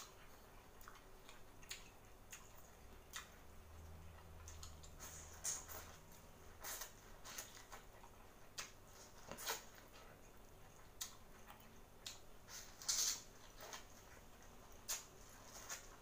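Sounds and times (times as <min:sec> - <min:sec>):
chewing corn on the cob: 0:00.0 - 0:16.0.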